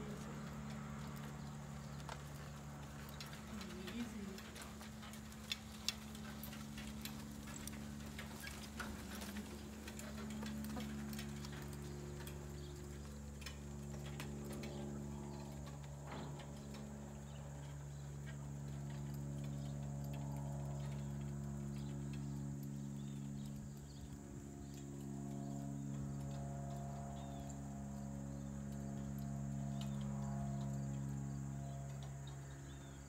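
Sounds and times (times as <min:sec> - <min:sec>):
horse hooves ticking and clicking: 0:00.0 - 0:33.0
steady low hum: 0:00.0 - 0:33.0.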